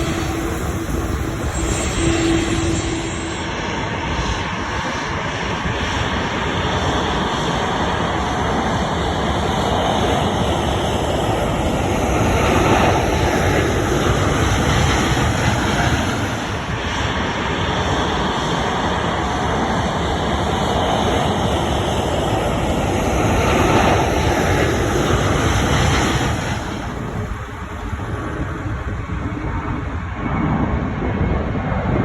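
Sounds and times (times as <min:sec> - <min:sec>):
jet airliner engines passing: 0:00.0 - 0:32.0.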